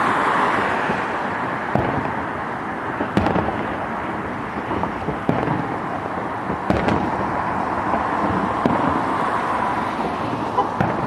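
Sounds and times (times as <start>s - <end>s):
fireworks crackling rumble: 0.0s - 11.0s
sharp firework bangs: 0.9s - 11.0s.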